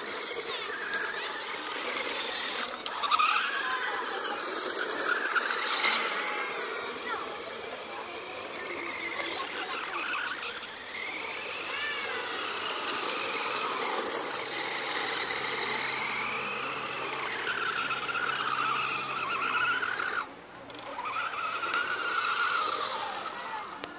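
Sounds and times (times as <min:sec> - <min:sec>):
remote-control car motor whining: 0:00.0 - 0:23.9
tyres scrabbling on dirt: 0:00.0 - 0:23.9.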